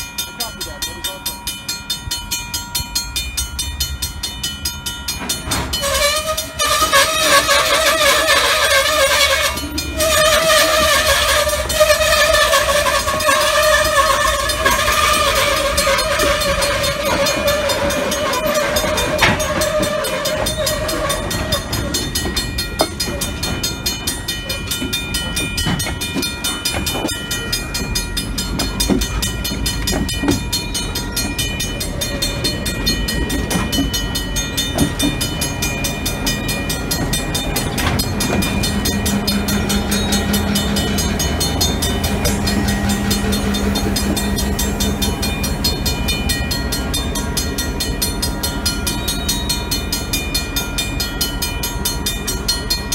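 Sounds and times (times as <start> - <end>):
crossing bell ringing: 0.0 - 52.9
diesel locomotive engine drone: 0.0 - 52.9
train wheels clicking over rail joints: 1.5 - 52.9.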